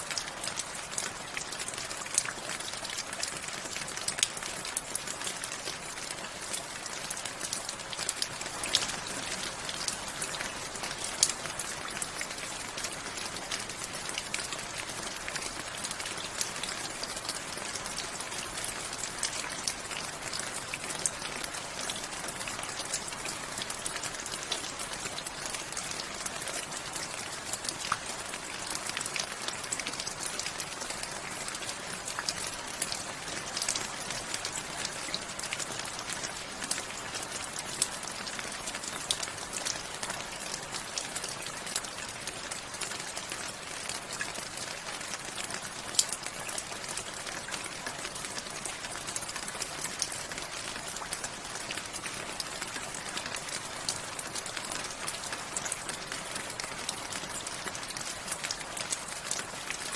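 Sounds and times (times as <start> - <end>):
raindrops pattering on a surface: 0.0 - 59.9.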